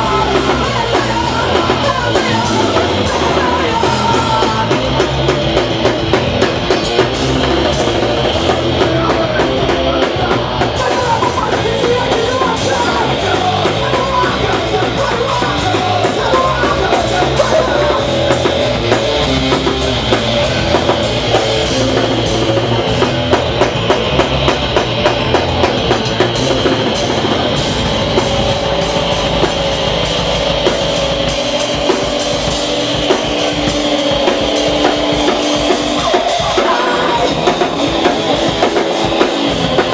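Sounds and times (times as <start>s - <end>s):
fast drum kit: 0.0s - 39.9s
punk band playing live: 0.0s - 39.9s.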